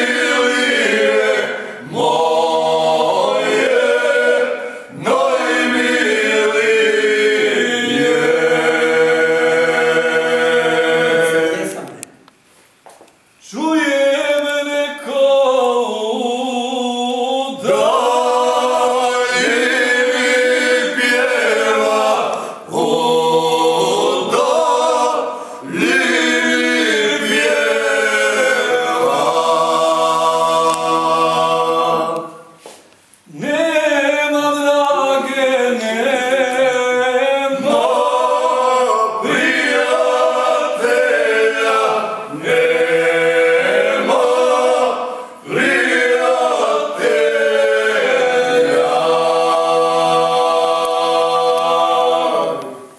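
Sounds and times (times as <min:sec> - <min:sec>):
men singing a cappella: 0:00.0 - 0:11.8, 0:13.4 - 0:32.7, 0:33.3 - 0:52.9.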